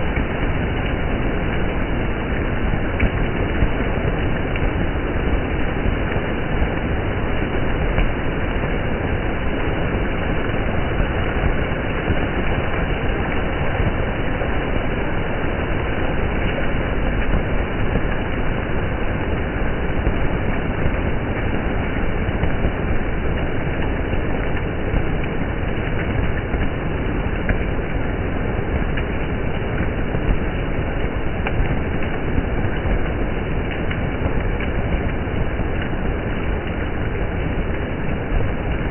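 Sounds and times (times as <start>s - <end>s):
water splashing on wet street: 0.0s - 38.9s.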